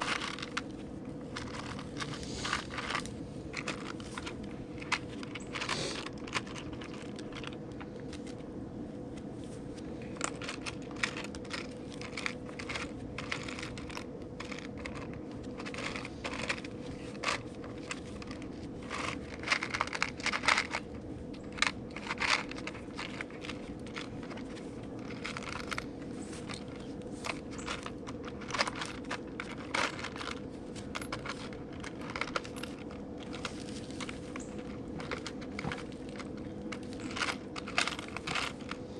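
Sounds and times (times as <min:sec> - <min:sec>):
rummaging through small screws: 0:00.0 - 0:08.0, 0:10.1 - 0:38.9
steady hum: 0:00.0 - 0:38.9.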